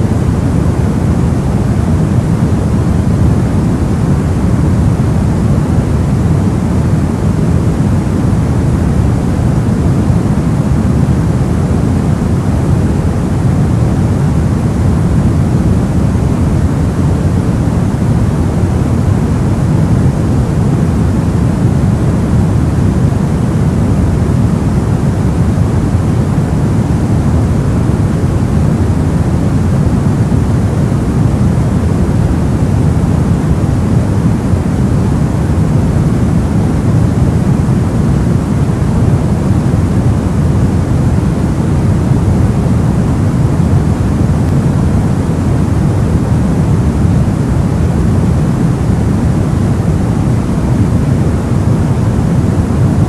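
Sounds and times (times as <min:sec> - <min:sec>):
deep white noise hiss: 0:00.0 - 0:53.0.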